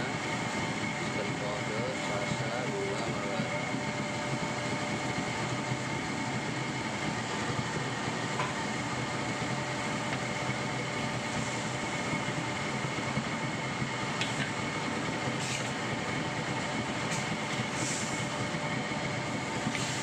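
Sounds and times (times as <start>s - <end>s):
sauce bubbling and sizzling in a wok: 3.6s - 20.0s.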